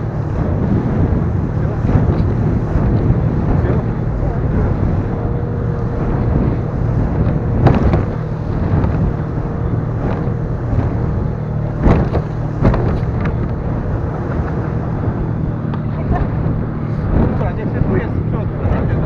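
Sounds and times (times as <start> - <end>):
boat hull smacking waves: 0.0 - 18.9
outboard motor running: 0.0 - 19.0
wind buffeting microphone: 0.0 - 19.0.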